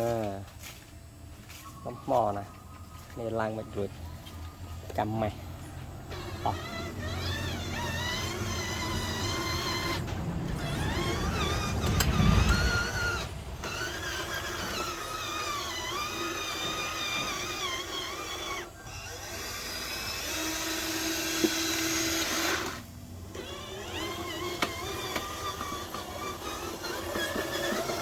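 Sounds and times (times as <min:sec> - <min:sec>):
small electric motor whining: 0:02.2 - 0:28.0.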